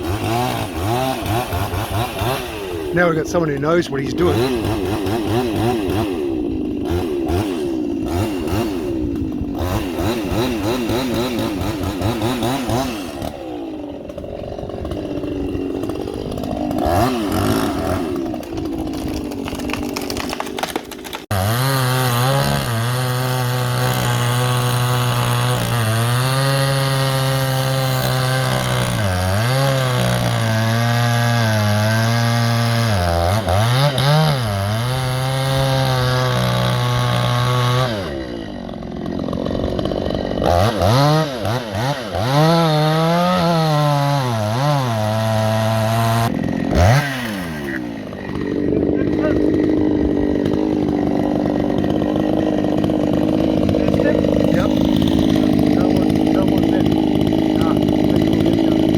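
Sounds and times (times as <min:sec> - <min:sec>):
chainsaw cutting wood: 0:00.0 - 0:58.9.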